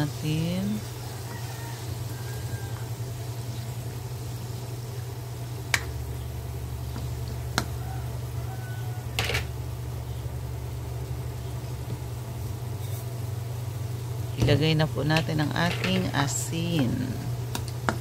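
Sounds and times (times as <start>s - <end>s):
low hum: 2.7s - 17.9s.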